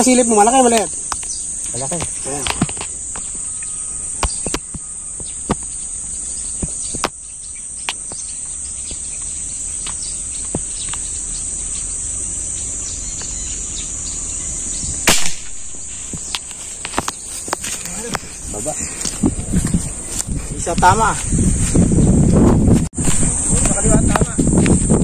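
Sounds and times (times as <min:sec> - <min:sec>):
high-pitched insect drone: 0:00.0 - 0:22.4, 0:23.0 - 0:25.0.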